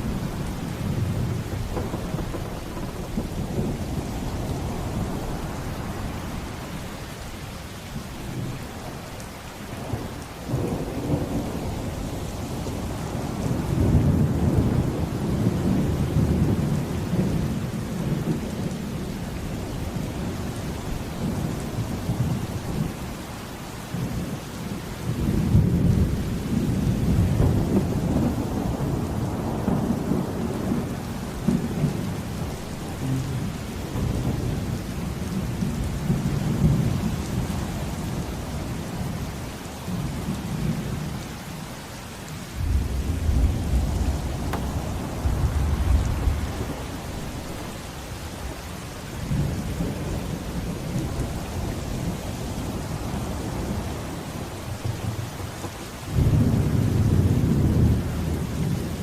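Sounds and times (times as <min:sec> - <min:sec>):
rolling thunder: 0:00.0 - 0:24.4, 0:25.0 - 0:39.2, 0:42.6 - 0:59.0
steady rain: 0:00.0 - 0:59.0.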